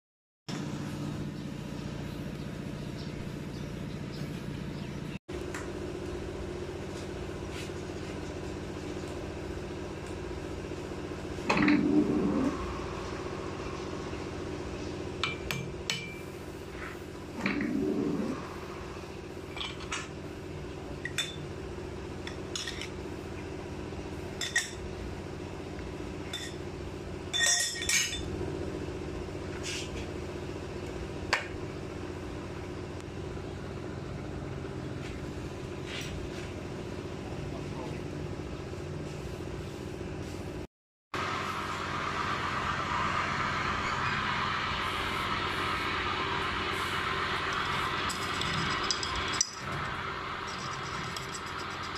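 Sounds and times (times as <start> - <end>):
steady machine hum: 0.5 - 51.9.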